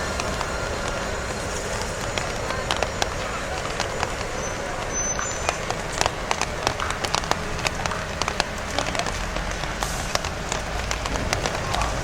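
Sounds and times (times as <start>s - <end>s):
rain drops tapping surfaces: 0.0s - 12.0s.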